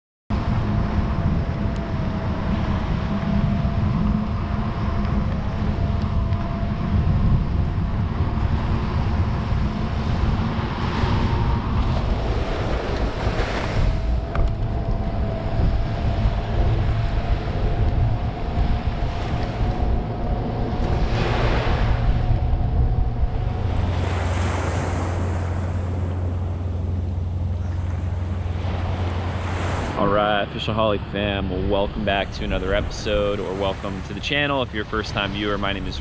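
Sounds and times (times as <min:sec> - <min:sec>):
surf washing on shore: 0:00.3 - 0:36.0
wind buffeting microphone: 0:00.3 - 0:36.0
electric motor whine: 0:00.4 - 0:30.3.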